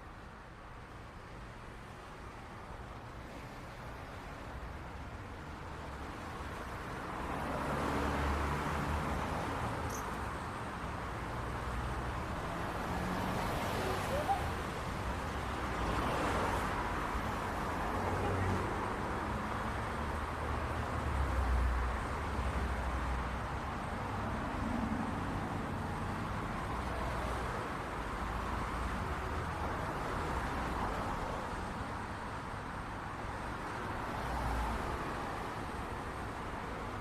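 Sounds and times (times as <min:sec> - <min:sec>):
passing cars: 0:00.0 - 0:37.0.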